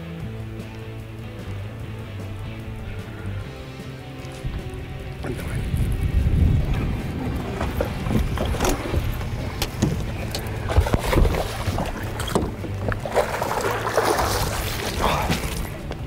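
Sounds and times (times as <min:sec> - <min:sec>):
boat engine low rumble: 0:00.0 - 0:16.0.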